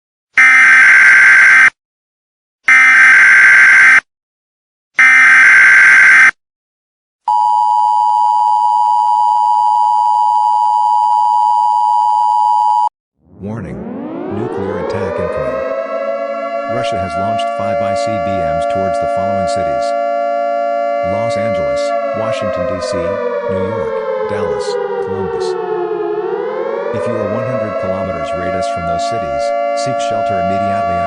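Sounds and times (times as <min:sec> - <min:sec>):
siren winding up: 0:00.4 - 0:01.8, 0:02.7 - 0:04.0, 0:05.0 - 0:06.4, 0:08.8 - 0:31.0.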